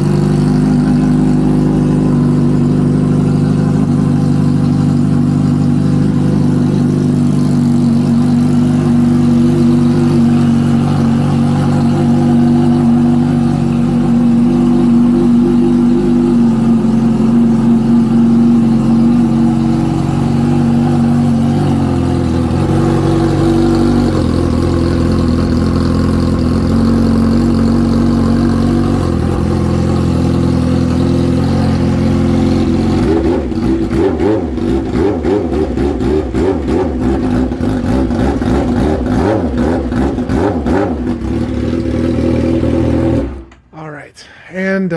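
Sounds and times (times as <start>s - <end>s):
motorcycle engine idling: 0.0s - 43.6s.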